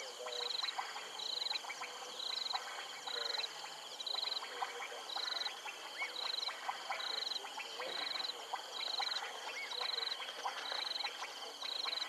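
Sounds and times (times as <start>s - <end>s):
frogs chirping and clicking: 0.0s - 12.0s.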